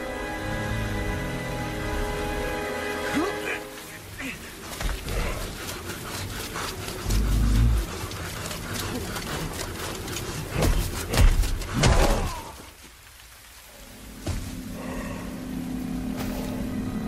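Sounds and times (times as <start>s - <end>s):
low steady drone: 0.0s - 10.8s, 13.7s - 17.0s.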